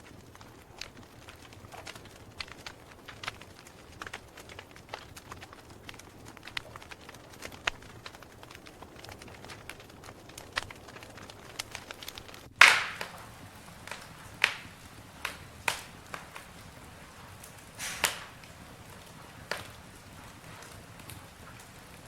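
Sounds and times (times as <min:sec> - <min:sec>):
burning wood popping: 0:00.0 - 0:22.0
campfire crackling: 0:00.0 - 0:22.0.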